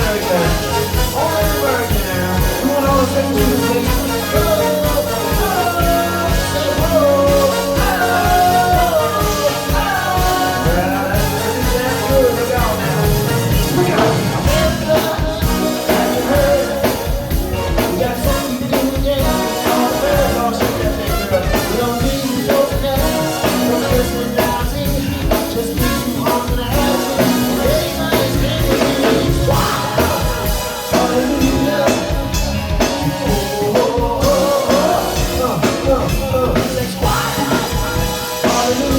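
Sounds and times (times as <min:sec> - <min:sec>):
funk band playing: 0:00.0 - 0:38.9
lead melody line: 0:00.0 - 0:38.9.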